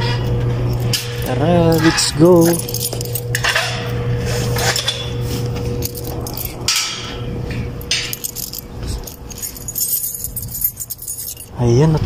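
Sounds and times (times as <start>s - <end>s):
steady low hum: 0.0s - 12.0s
metallic jangling and clinking: 0.7s - 4.0s, 4.6s - 11.7s.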